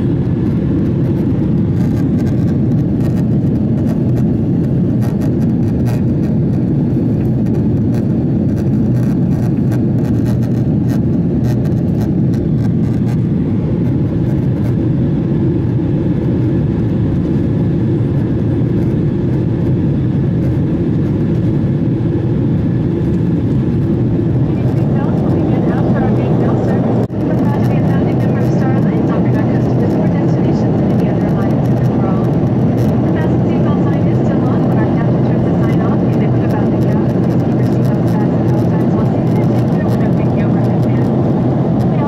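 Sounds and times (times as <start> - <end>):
jet engine and airflow in cabin: 0.0 - 42.0.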